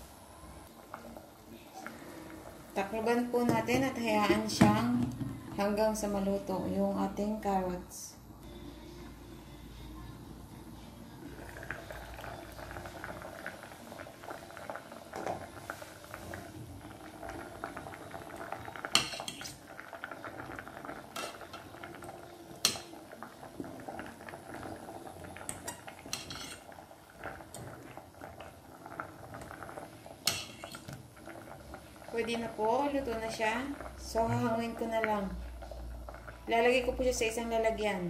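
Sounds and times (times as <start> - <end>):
water boiling in a saucepan: 0.0 - 38.0.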